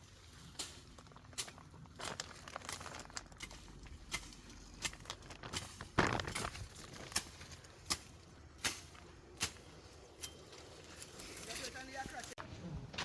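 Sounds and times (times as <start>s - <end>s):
crunching rustle: 0.0s - 12.4s.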